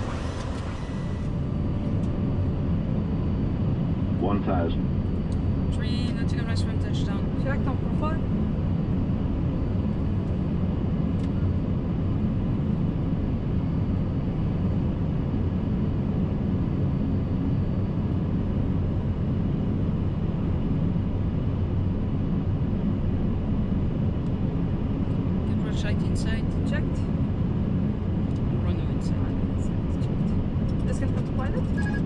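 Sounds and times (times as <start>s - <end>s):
airflow and engines rumbling: 0.0s - 32.0s.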